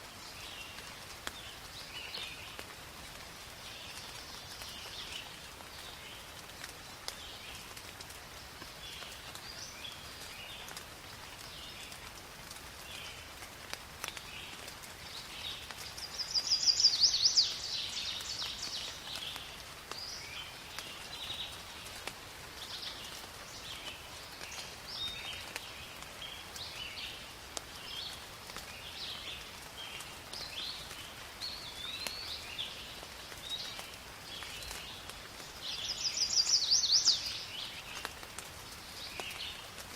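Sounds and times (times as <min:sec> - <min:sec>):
steady rain on foliage: 0:00.0 - 0:39.9.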